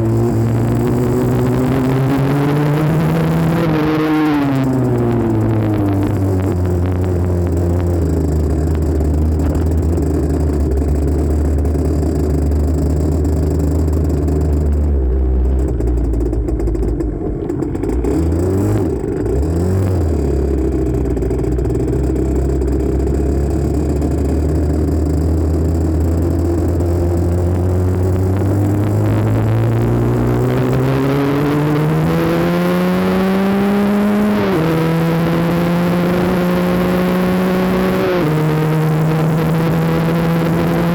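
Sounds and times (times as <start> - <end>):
two-stroke motorcycle engine revving: 0.0 - 40.9.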